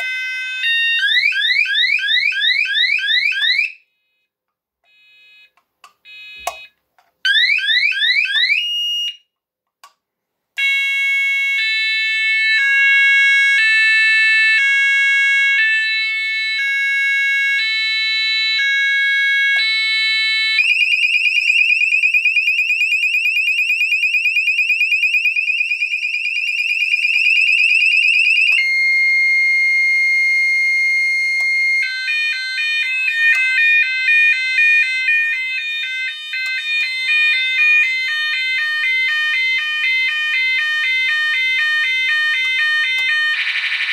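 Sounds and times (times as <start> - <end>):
fire alarm sounder tones: 0.0 - 3.8, 4.9 - 6.7, 7.3 - 9.3, 10.6 - 43.9.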